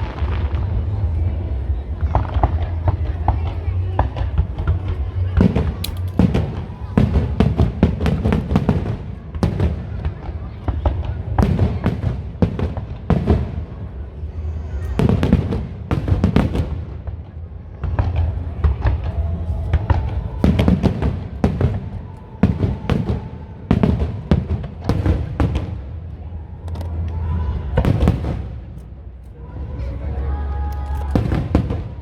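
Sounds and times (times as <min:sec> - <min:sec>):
fireworks bangs and crackles: 0:00.0 - 0:29.6, 0:31.0 - 0:32.0.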